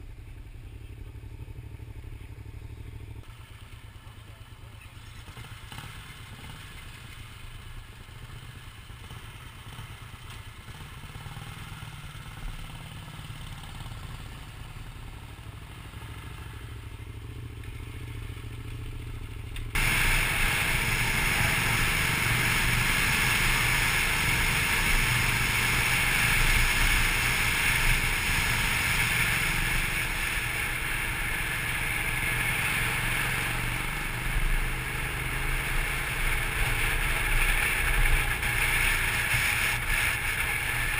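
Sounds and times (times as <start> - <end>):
motorcycle engine riding: 0.0 - 40.9
motorcycle engines idling: 0.0 - 40.9.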